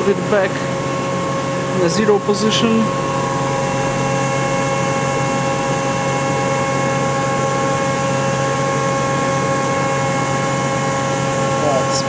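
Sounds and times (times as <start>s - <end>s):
machining center humming: 0.0s - 12.0s.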